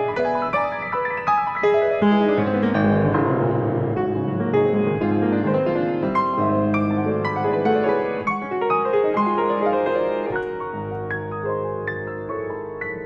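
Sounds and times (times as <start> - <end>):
solo grand piano: 0.0 - 13.0.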